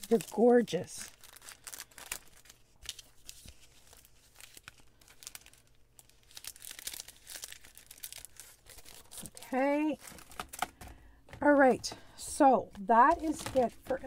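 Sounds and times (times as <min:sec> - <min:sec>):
cellophane bag crinkling: 0:00.0 - 0:11.0, 0:12.6 - 0:14.0.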